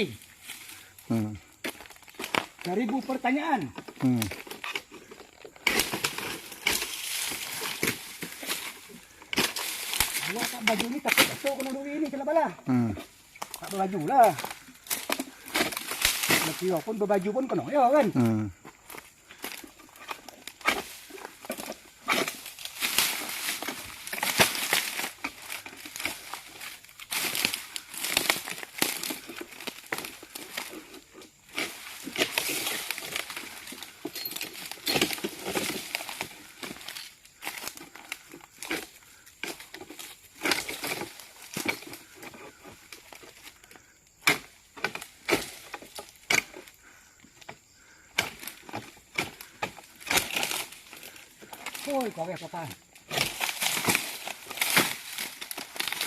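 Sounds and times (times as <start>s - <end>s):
leaves and branches rustling: 0.0s - 56.0s.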